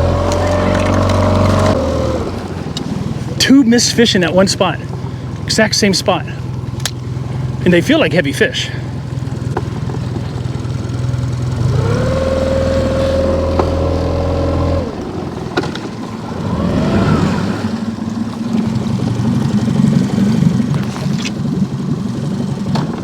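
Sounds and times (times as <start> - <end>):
outboard motor revving: 0.0 - 23.0.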